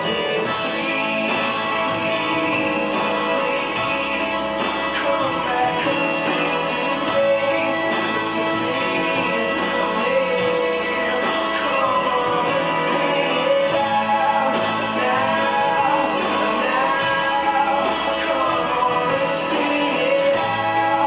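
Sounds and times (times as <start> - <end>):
guitar music: 0.0 - 21.0
person singing: 0.0 - 21.0.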